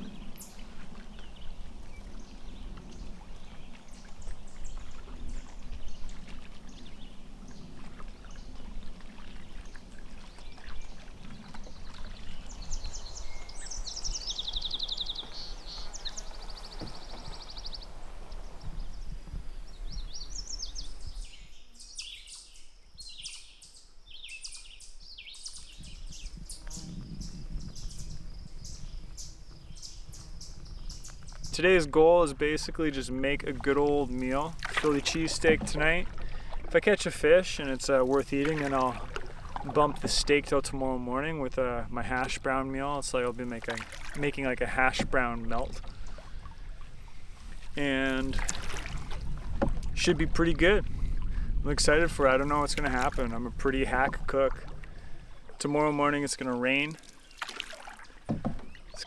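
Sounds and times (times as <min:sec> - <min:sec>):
birds singing: 0:00.0 - 0:48.5, 0:51.5 - 0:59.0
paddle splashing water: 0:00.0 - 0:59.0.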